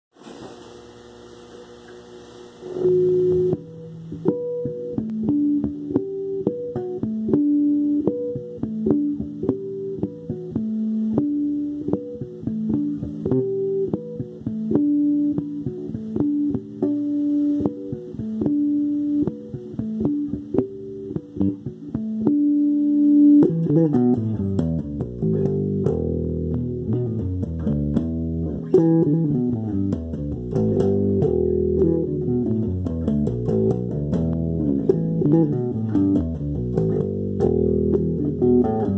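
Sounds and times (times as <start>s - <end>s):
guitar playing plucked melody: 2.6s - 38.9s.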